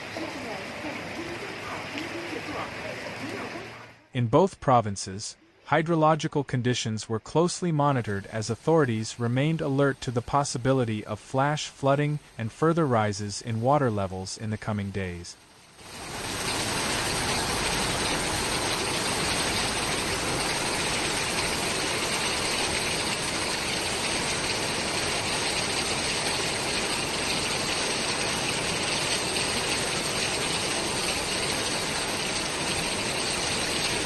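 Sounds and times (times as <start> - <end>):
floodwater rushing: 0.0 - 4.0, 7.4 - 34.0.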